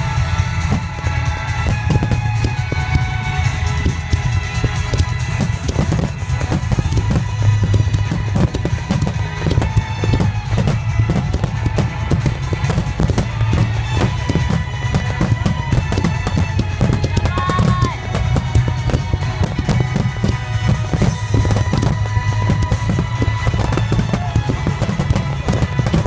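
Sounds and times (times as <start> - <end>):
firework whistle: 0.0 - 26.0
fireworks booming: 0.0 - 26.0
fireworks crackle: 0.0 - 26.0.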